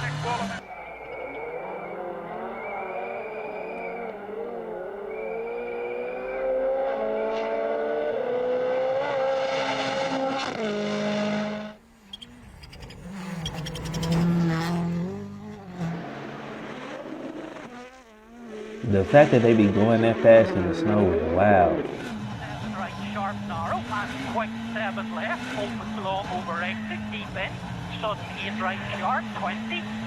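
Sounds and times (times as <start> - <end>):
rally car engine revving hard: 0.0 - 0.6, 1.3 - 30.0
car accelerating: 0.0 - 30.0.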